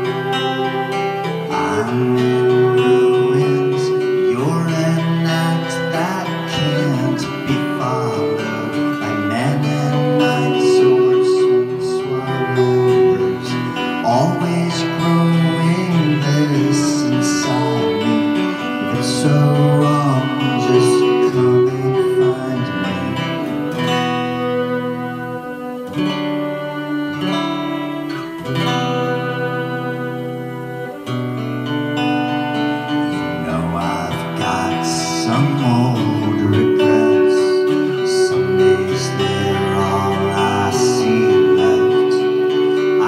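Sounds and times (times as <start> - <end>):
acoustic guitar: 0.0 - 43.0
long held notes: 0.0 - 43.0.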